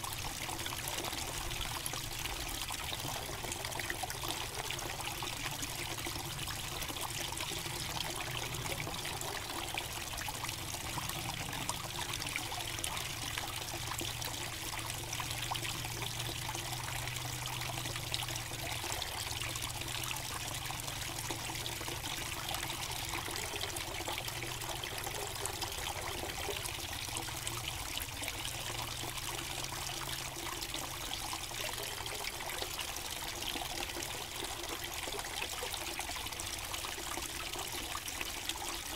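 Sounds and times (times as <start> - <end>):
small waterfall trickling: 0.0 - 38.9.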